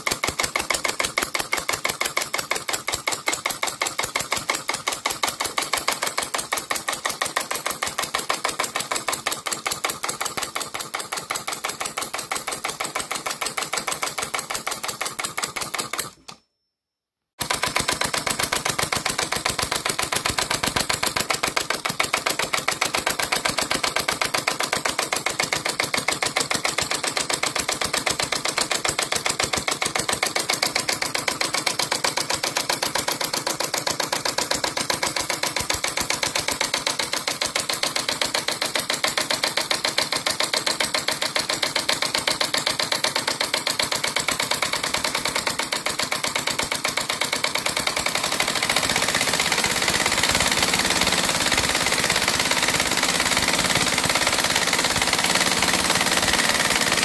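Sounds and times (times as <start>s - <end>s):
model engine running: 0.0s - 16.3s, 17.4s - 57.0s.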